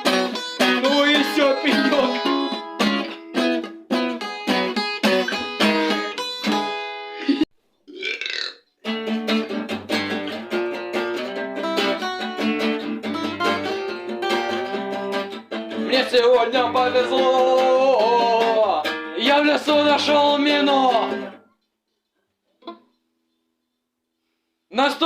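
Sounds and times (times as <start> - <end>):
acoustic guitar strumming: 0.0 - 7.4, 8.8 - 21.5.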